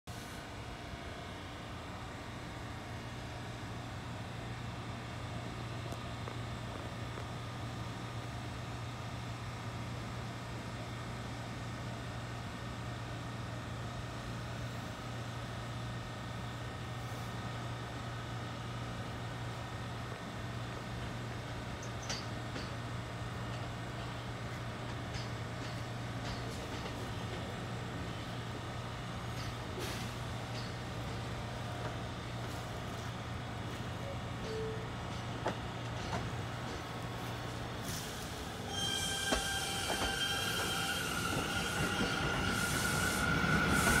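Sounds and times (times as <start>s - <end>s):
subway train rumble: 0.1s - 44.0s.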